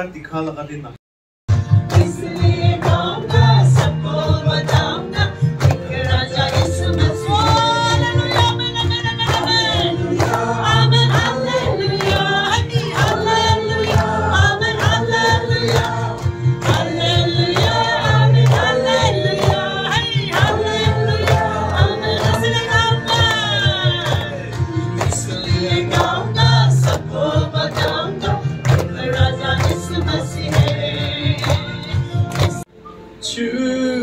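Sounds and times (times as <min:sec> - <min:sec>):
choir singing worship song: 0:01.9 - 0:32.6.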